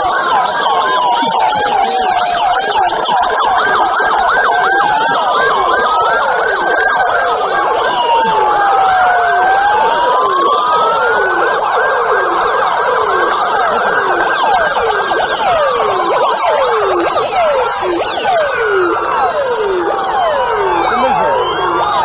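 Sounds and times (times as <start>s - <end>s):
police sirens wailing: 0.0s - 22.0s.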